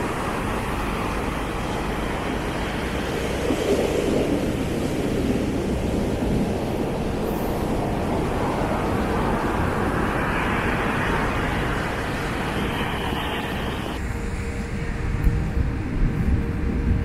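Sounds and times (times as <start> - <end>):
surf washing up a beach: 0.0 - 14.2
wind rumbling on microphone: 0.0 - 17.0.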